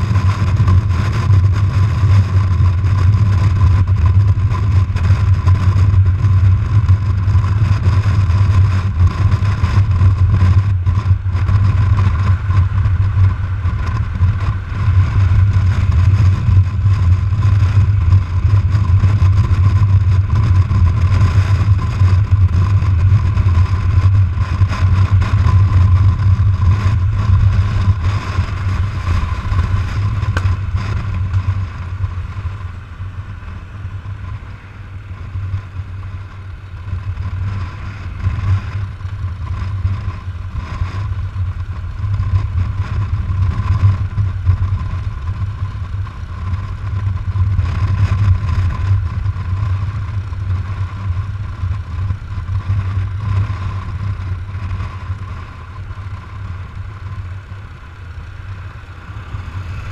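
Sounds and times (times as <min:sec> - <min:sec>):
wind rush: 0:00.0 - 0:56.8, 0:58.4 - 0:59.9
motorcycle engine running: 0:00.0 - 0:59.9.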